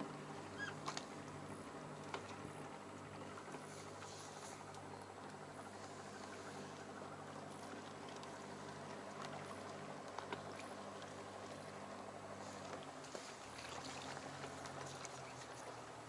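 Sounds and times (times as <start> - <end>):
low hum of boat engine: 0.0 - 16.0.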